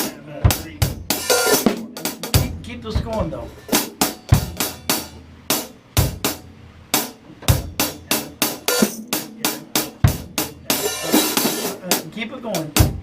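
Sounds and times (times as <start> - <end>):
hi-hat strikes: 0.0 - 13.0
bass drum hits: 0.4 - 11.1, 12.8 - 13.0.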